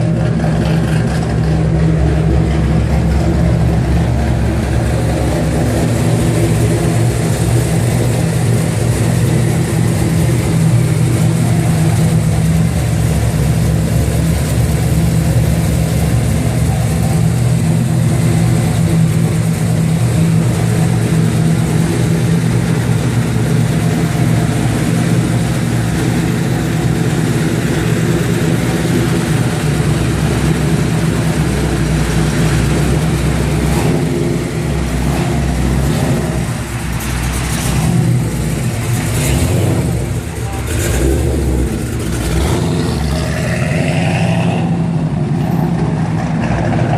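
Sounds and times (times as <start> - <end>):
car engine deep exhaust rumble: 0.0 - 46.9.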